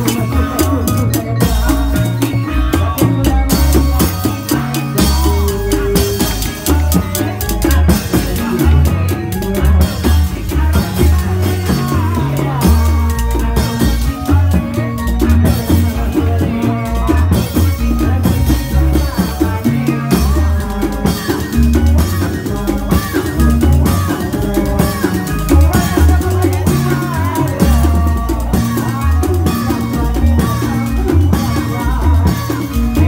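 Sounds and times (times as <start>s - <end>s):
heavy steady drumming: 0.0s - 33.0s
pitch-bending melody: 0.0s - 33.0s.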